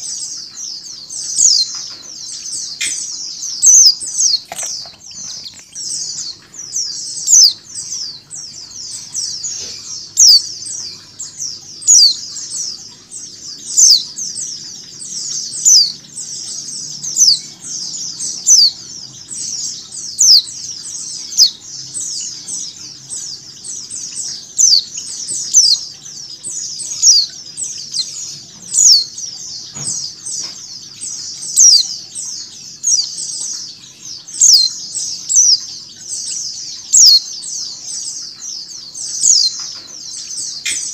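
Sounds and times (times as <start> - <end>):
down-sweeping bird chirps: 0.0 - 40.9
flock of birds twittering: 0.0 - 40.9.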